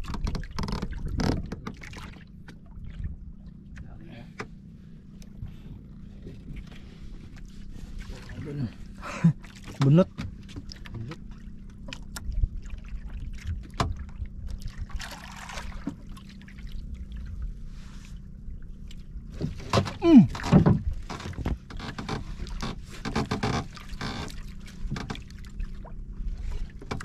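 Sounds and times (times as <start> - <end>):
water noise: 0.0 - 27.0
wind: 0.0 - 27.0.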